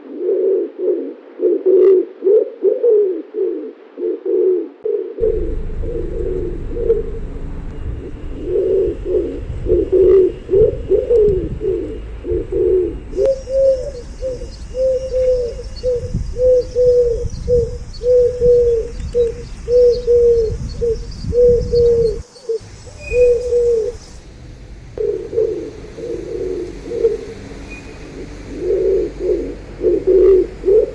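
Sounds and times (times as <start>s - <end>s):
pigeons cooing: 0.0s - 24.0s, 25.0s - 30.9s.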